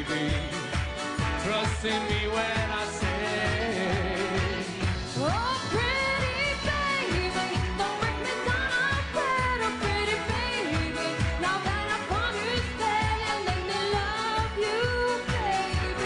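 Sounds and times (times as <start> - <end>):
pop band with steady beat: 0.0 - 16.0.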